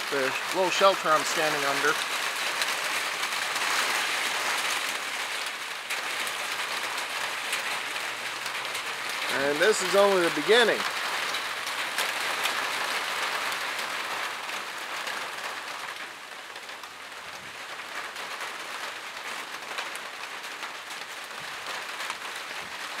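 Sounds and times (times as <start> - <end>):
heavy rain on a roof: 0.0 - 23.0.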